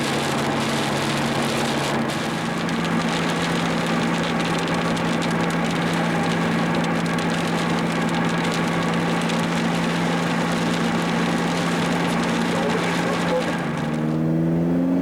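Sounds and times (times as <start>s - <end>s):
fine crackling noise: 0.0s - 14.2s
car engine droning: 0.0s - 15.0s.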